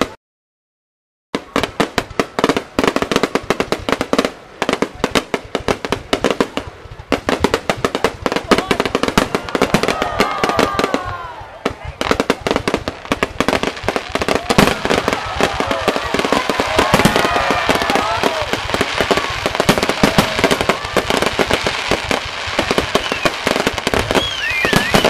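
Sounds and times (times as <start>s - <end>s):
fireworks bangs and crackles: 1.4s - 25.0s.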